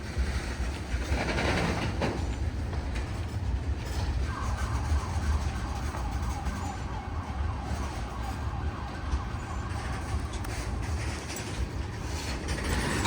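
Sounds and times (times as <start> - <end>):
freight train rumbling past: 0.0 - 7.6, 8.6 - 13.0.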